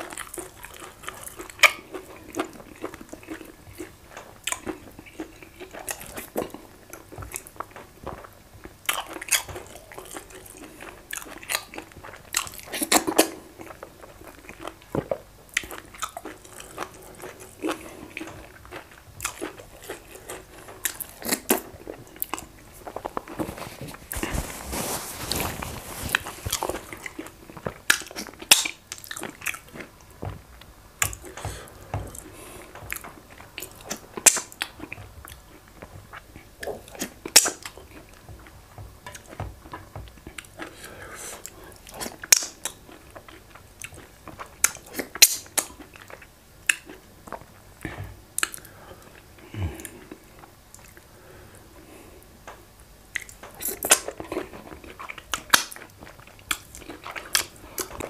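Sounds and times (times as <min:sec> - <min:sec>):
chewing with wet smacks: 0:00.0 - 0:24.2, 0:26.2 - 0:51.1, 0:52.5 - 0:58.0.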